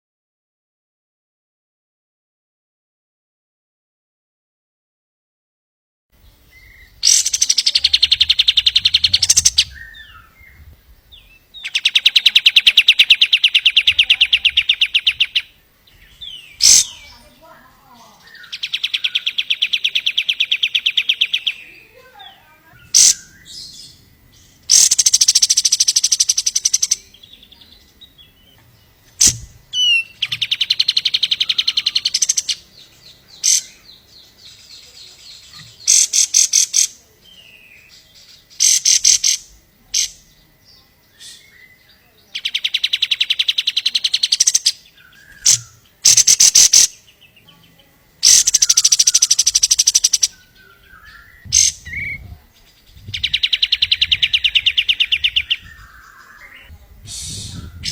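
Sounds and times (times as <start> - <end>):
bird chirps: 6.2 - 57.9
bird singing fast trills: 6.2 - 57.9.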